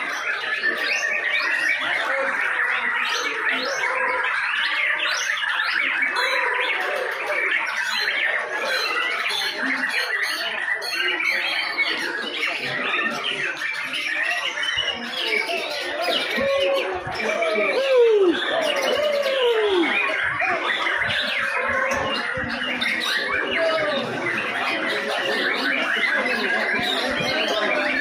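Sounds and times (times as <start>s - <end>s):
birds singing in chorus: 0.0s - 28.0s.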